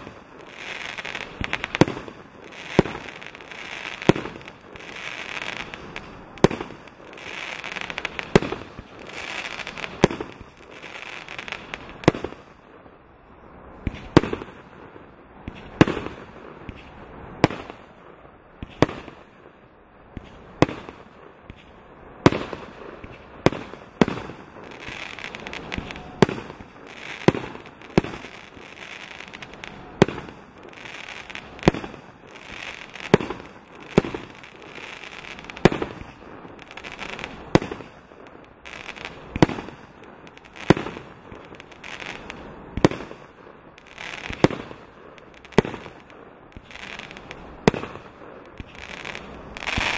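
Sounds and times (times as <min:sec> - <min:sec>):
fireworks shots firing: 0:00.0 - 0:12.9, 0:13.8 - 0:49.9
sizzle of burning firework stars: 0:00.0 - 0:49.9.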